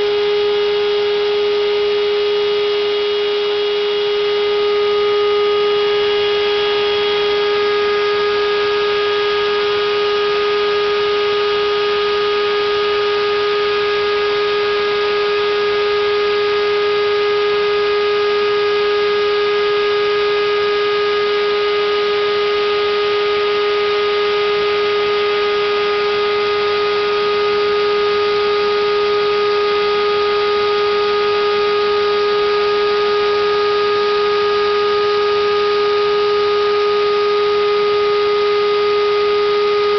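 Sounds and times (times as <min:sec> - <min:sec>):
cnc router whine: 0:00.0 - 0:39.9.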